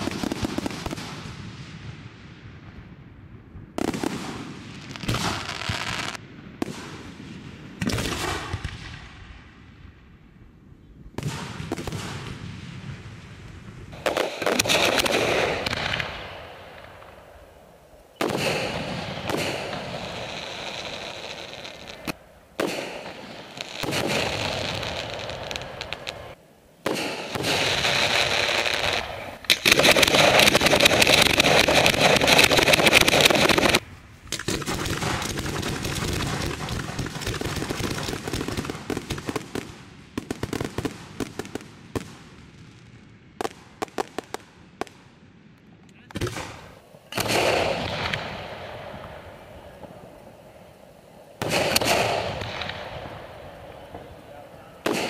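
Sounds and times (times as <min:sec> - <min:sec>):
fireworks bangs: 0:00.0 - 0:10.0, 0:11.1 - 0:45.1, 0:46.0 - 0:55.0
fireworks crackling and rumbling: 0:00.0 - 0:55.0.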